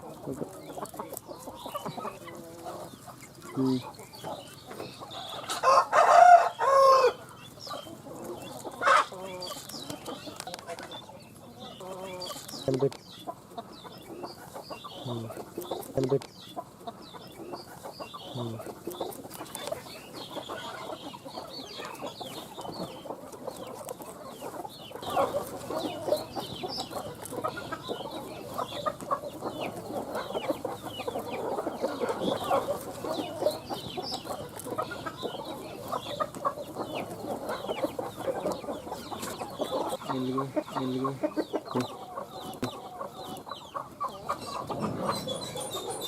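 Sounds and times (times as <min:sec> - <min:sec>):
chickens clucking and cheeping: 0:00.0 - 0:46.0.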